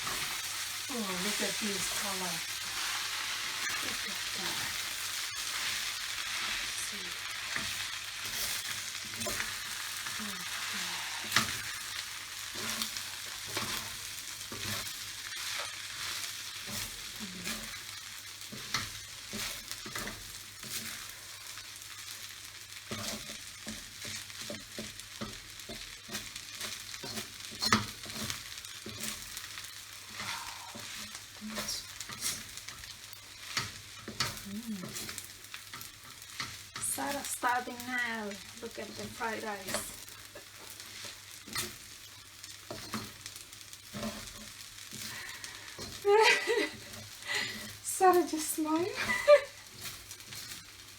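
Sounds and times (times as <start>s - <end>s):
spatula scraping and knocking pan: 0.0s - 0.6s, 1.2s - 46.1s, 46.7s - 50.9s
food sizzling in a pan: 0.0s - 50.9s.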